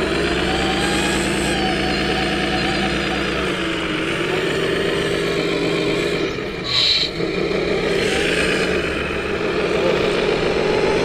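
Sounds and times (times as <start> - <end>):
toy truck motor drone: 0.0 - 11.0.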